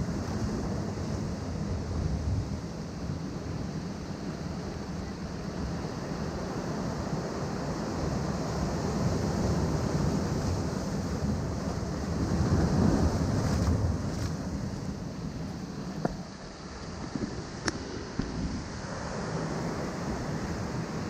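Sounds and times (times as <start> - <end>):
ocean waves breaking on rocks: 0.0 - 21.0.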